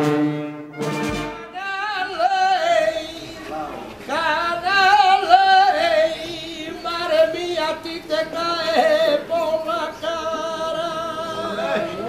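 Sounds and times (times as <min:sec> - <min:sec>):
solo voice singing lament: 0:01.5 - 0:12.0.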